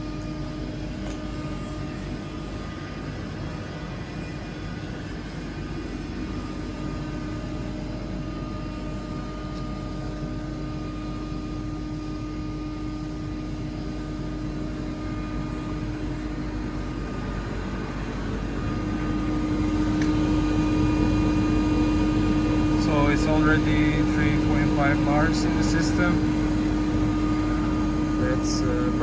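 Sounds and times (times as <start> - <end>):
air compressor humming: 0.0 - 29.0.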